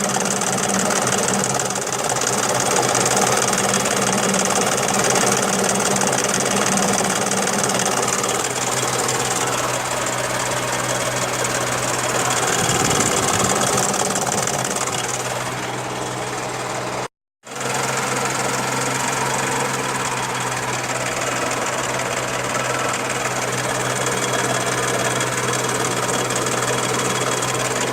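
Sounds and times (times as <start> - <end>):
car engine running: 0.0 - 27.9
strange engine noise: 0.0 - 27.9.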